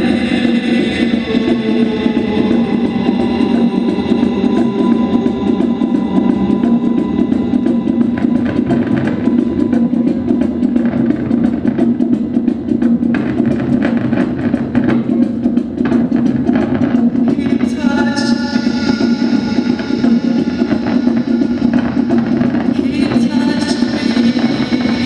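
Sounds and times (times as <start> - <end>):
drum kit beating: 0.0 - 25.0.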